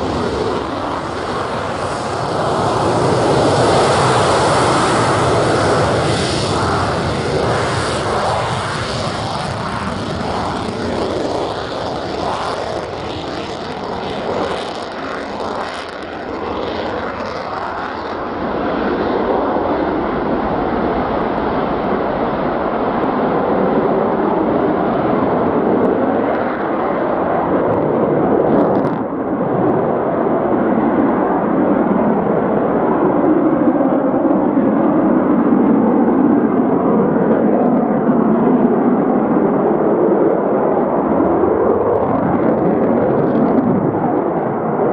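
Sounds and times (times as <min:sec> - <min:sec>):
deep jet rumble: 0:00.0 - 0:44.9
jet engine roar at takeoff: 0:00.0 - 0:44.9.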